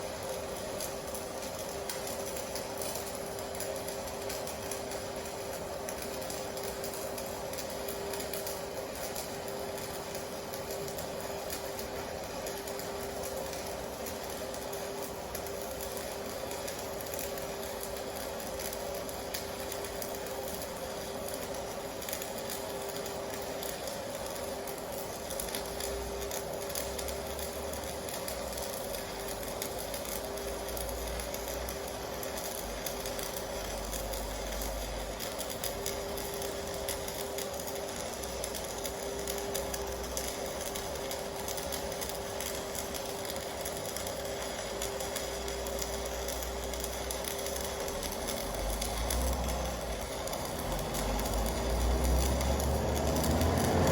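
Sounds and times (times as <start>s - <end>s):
welding arc crackling and buzzing: 0.0s - 53.9s.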